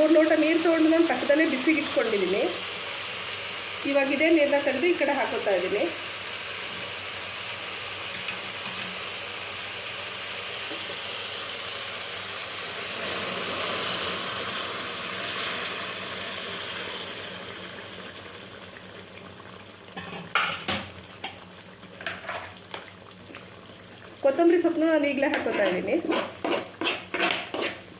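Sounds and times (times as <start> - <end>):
onion and tomato sizzling in pan: 0.0 - 27.9.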